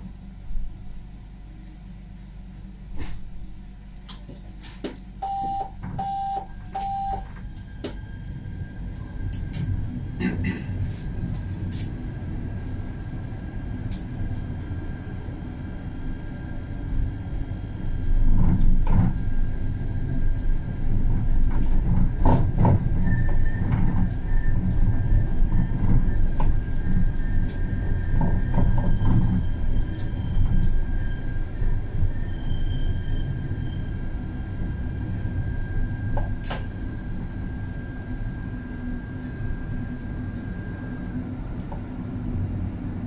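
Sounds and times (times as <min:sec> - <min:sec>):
tram rumble: 0:00.0 - 0:43.0.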